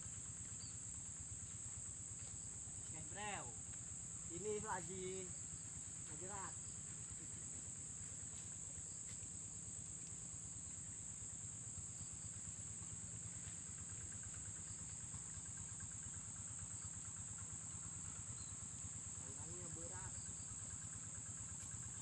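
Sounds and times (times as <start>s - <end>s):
high-pitched insect drone: 0.0s - 9.2s, 10.6s - 22.0s.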